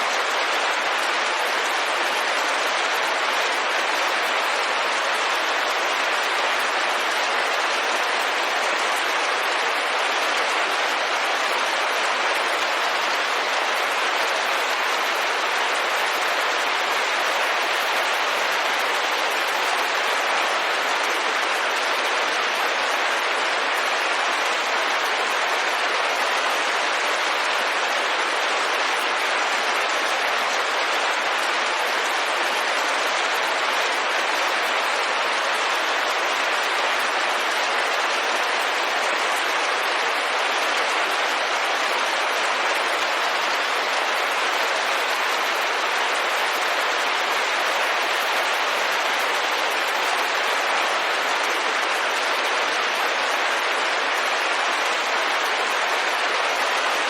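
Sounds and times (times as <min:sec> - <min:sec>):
rain pattering on a window: 0:00.0 - 0:57.0.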